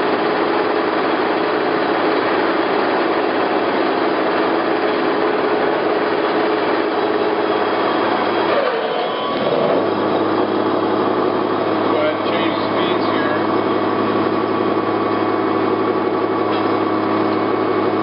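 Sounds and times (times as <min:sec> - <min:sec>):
lathe whirring: 0:00.0 - 0:18.0.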